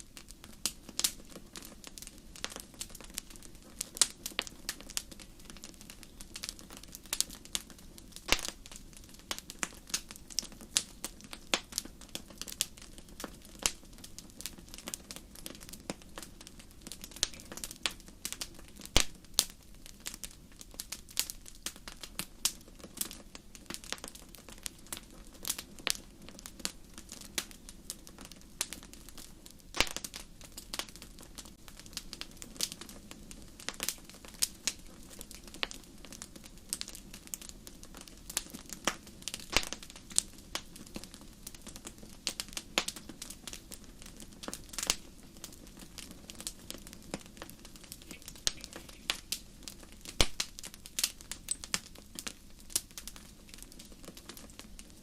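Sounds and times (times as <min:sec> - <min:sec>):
fire pops and snaps: 0:00.0 - 0:55.0
hiss of flames: 0:00.0 - 0:55.0
wood fire crackling: 0:00.0 - 0:55.0.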